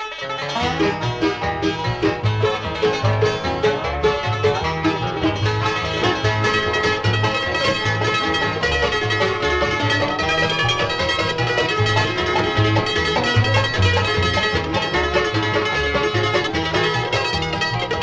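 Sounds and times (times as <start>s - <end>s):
banjo picking: 0.0s - 18.0s
bluegrass band playing: 0.0s - 18.0s.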